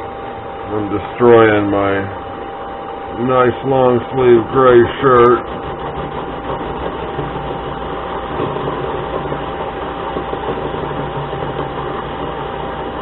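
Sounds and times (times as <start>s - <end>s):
lathe cutting workpiece: 0.0s - 13.0s
lathe motor whine: 0.0s - 13.0s.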